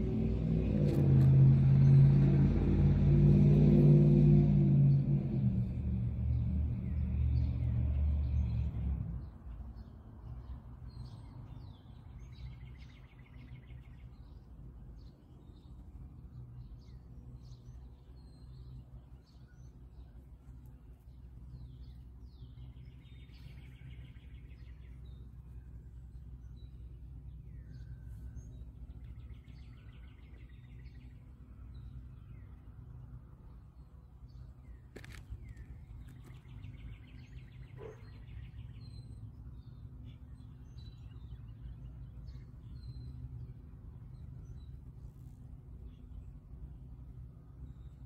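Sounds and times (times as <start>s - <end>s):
small birds chirping and trilling: 0.0s - 48.0s
steady low rumble: 0.0s - 48.0s.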